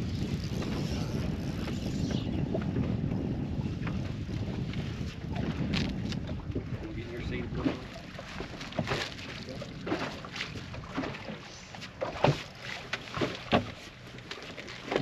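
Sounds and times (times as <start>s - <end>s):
water slapping against hull: 0.0s - 15.0s.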